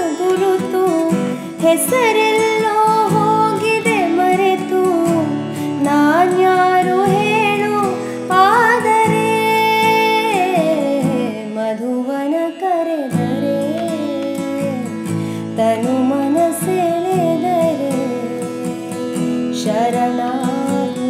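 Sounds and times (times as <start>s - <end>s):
acoustic guitar strumming: 0.0s - 21.0s
woman singing: 0.0s - 21.0s.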